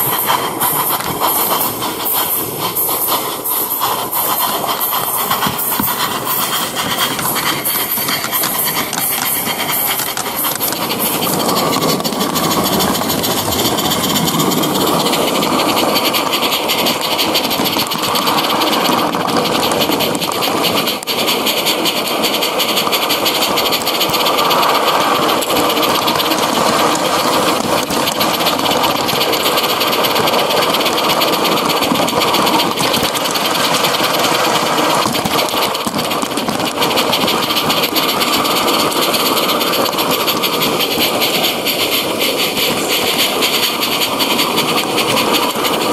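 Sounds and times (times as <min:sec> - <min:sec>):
model steam locomotive chuffing: 0:00.0 - 0:45.9.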